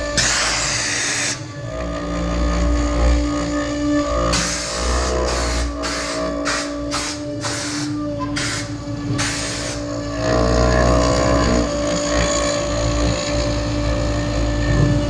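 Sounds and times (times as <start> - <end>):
bit milling wood: 0.0 - 15.0
router spindle whine: 0.0 - 15.0.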